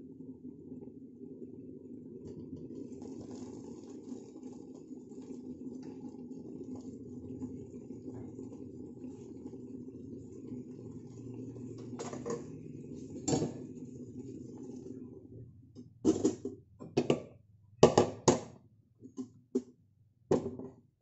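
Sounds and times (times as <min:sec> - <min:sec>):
pot cooking low noise: 0:00.0 - 0:21.0.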